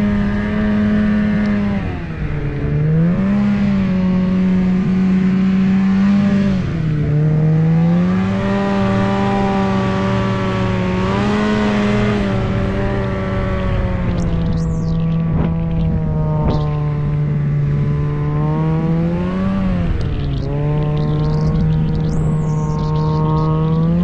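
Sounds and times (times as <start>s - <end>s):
snowmobile engine running: 0.0s - 24.0s.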